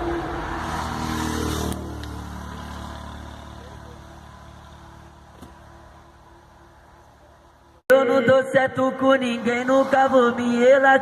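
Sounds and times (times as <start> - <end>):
vehicle passing on road: 0.0 - 7.8, 8.6 - 11.0.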